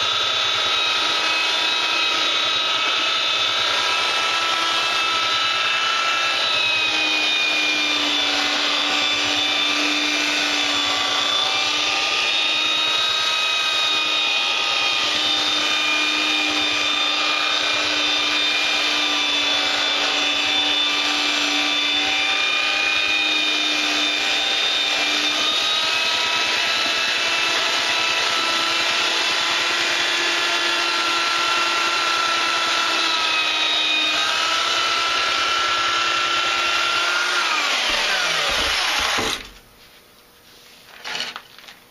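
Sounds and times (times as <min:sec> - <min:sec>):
power sander on wood: 0:00.0 - 0:39.6.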